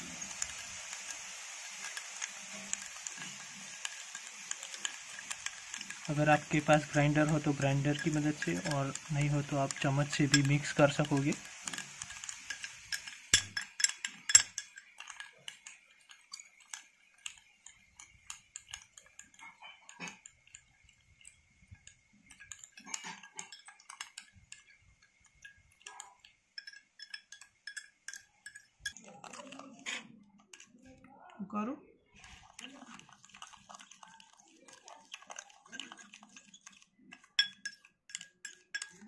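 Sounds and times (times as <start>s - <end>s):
spoon scraping glass bowl: 0.0s - 31.0s, 32.1s - 39.0s.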